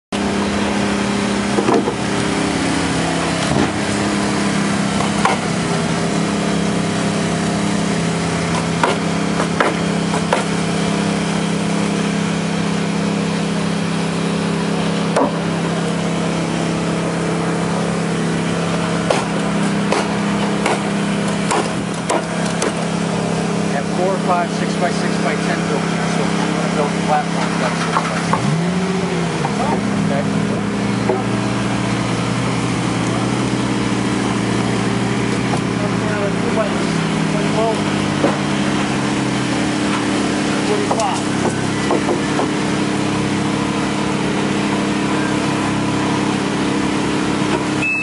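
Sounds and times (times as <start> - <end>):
machine drone: 0.1 - 48.0.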